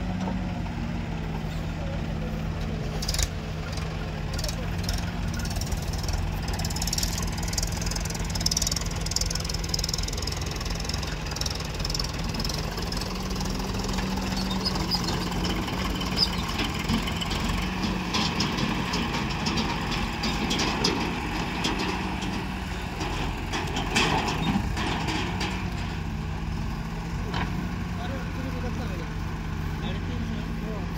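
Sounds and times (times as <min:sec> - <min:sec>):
diesel engine under load: 0:00.0 - 0:30.9.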